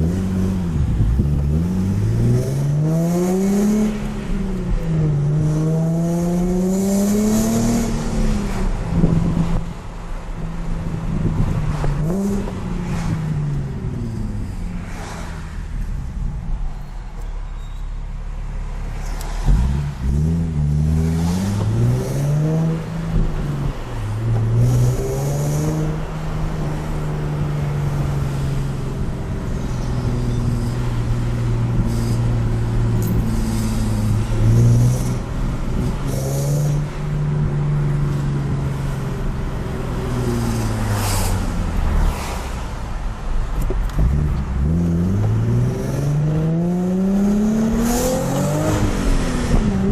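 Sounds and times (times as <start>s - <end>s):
car engine and exhaust: 0.0s - 49.9s.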